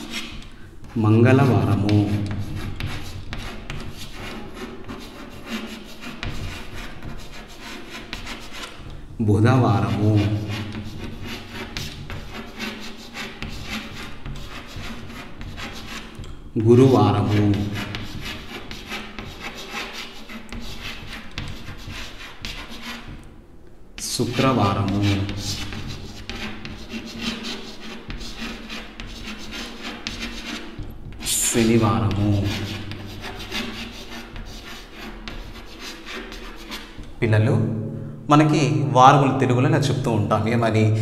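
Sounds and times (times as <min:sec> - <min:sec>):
chalk scratching on chalkboard: 0:00.0 - 0:23.3, 0:24.0 - 0:37.2.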